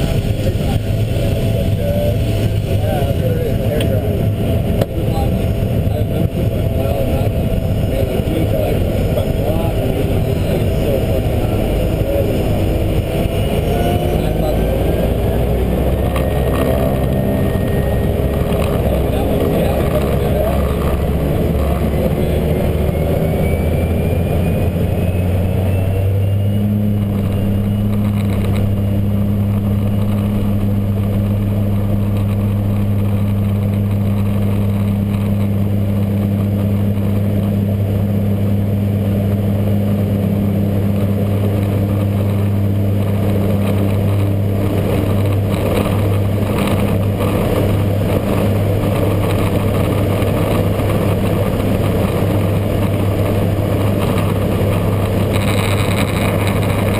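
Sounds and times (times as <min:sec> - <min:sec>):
faint rising whine: 0:00.0 - 0:56.9
propeller airplane engine drone: 0:00.0 - 0:56.9.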